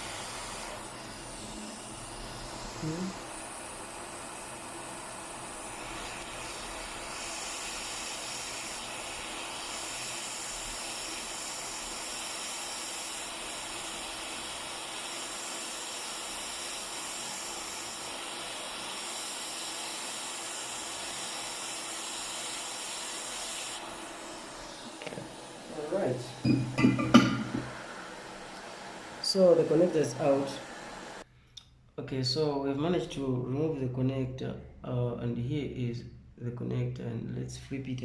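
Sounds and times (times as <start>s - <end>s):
hot air gun hissing: 0.0s - 31.3s.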